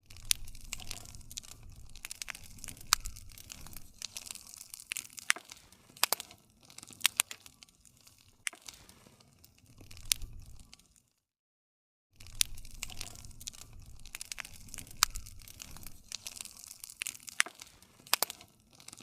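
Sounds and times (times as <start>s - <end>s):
campfire crackling: 0.0s - 11.1s, 12.2s - 19.0s.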